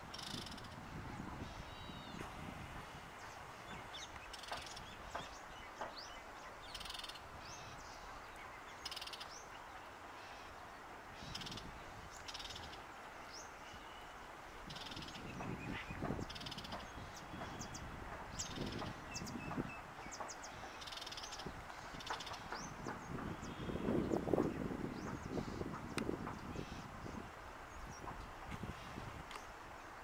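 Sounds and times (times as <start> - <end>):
birds chirping: 3.1 - 9.8, 10.4 - 28.2.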